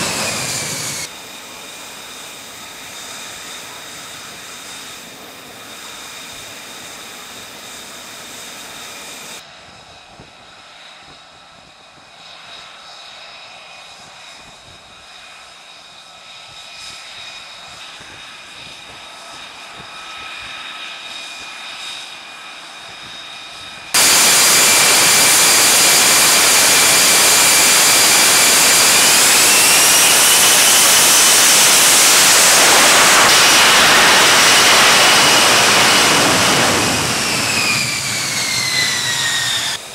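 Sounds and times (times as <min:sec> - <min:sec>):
jet engine whine and roar: 0:00.0 - 0:39.9.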